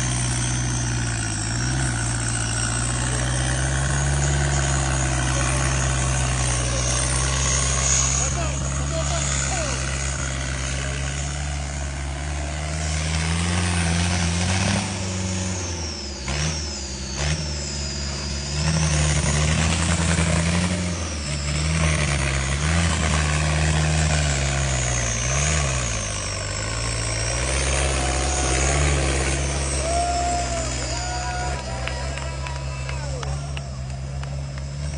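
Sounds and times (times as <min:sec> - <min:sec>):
off-road vehicle engine revving: 0:00.0 - 0:34.9
thin high whine: 0:00.0 - 0:34.9.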